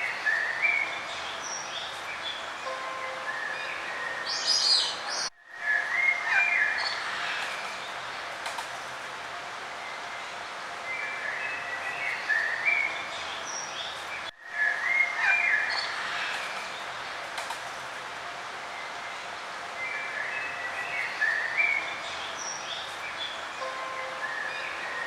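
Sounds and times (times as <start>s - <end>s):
outdoor background hiss: 0.0s - 25.0s
songbirds chirping and warbling: 0.0s - 25.0s.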